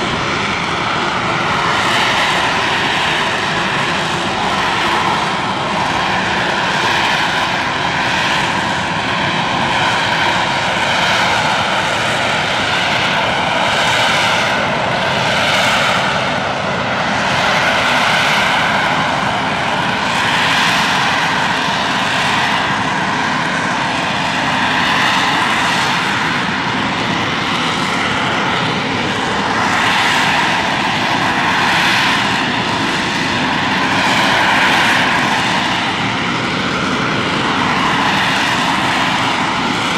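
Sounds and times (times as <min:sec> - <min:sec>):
jet engine roaring with whine: 0:00.0 - 0:39.9.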